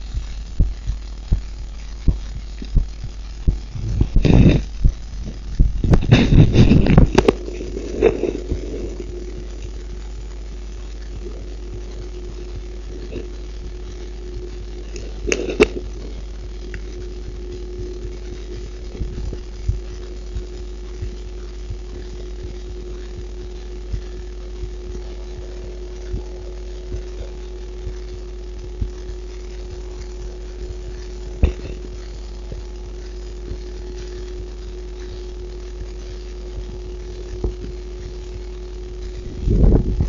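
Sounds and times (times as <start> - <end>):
faint hum: 0.0 - 40.0
heartbeat thumps: 0.0 - 40.0
low rumble: 0.0 - 40.0.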